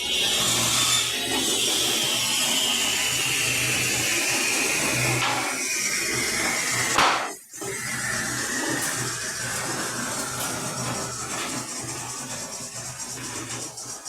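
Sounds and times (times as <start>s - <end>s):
electric saw cutting board: 0.0s - 14.0s.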